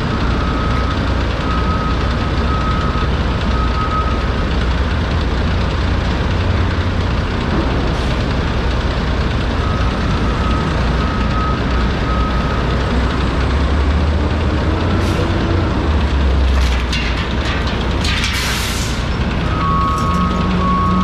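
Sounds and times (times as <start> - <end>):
diesel truck engine humming: 0.0 - 21.0.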